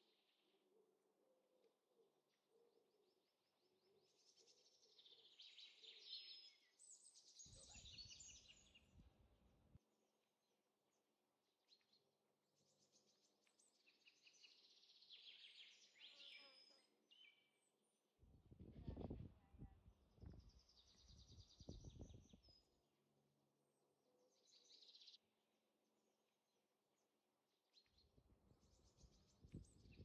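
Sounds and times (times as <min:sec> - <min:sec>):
small birds chirping: 0:00.0 - 0:09.1, 0:10.9 - 0:18.0, 0:18.6 - 0:22.8, 0:23.7 - 0:25.2, 0:27.0 - 0:30.0.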